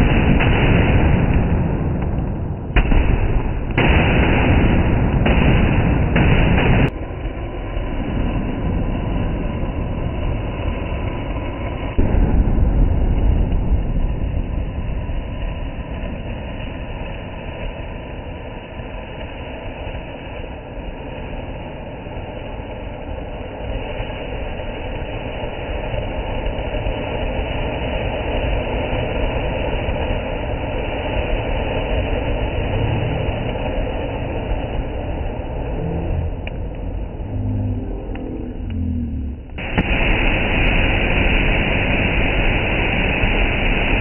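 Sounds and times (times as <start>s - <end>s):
firework fountain hissing: 0.0s - 44.0s.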